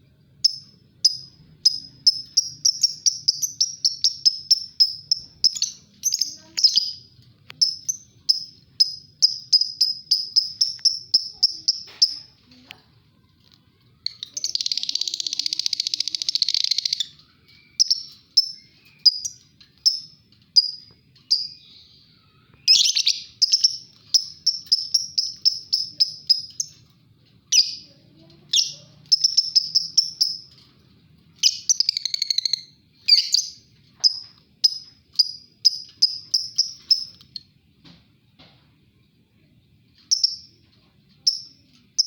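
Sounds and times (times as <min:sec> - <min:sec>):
high-pitched bird chirps: 0:00.4 - 0:13.3, 0:13.9 - 0:26.9, 0:27.5 - 0:30.7, 0:31.4 - 0:37.5, 0:40.0 - 0:42.0
lovebirds chattering: 0:00.4 - 0:30.7, 0:31.3 - 0:37.5.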